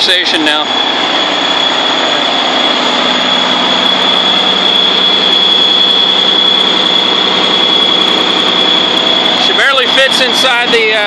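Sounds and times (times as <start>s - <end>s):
diesel truck engine running: 0.0s - 11.0s
high whine: 0.0s - 11.0s.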